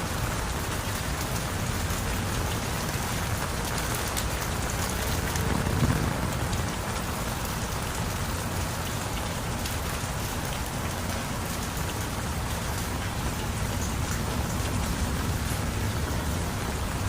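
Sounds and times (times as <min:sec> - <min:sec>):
heavy rain falling: 0:00.0 - 0:17.0
raindrops ticking: 0:00.0 - 0:17.0.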